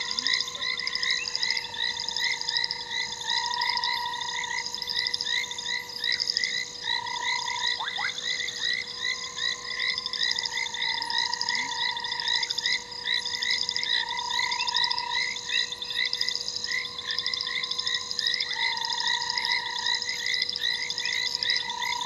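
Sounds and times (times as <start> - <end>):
chorus of frogs calling: 0.0 - 22.0.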